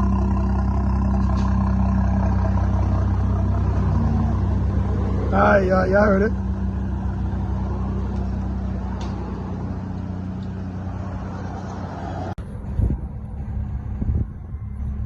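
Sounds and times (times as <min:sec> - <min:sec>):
car engine idling deep drone: 0:00.0 - 0:15.0.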